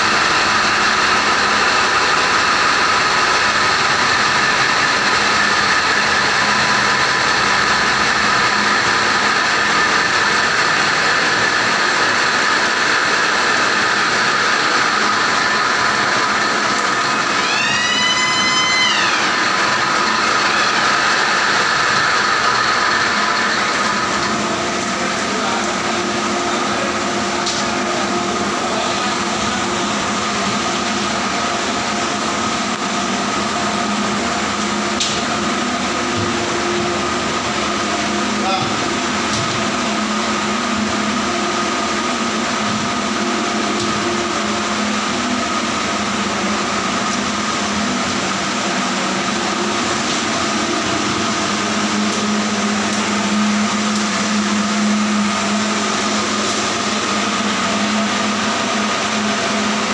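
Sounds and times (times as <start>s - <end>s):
engine room diesel drone: 0.0s - 59.9s.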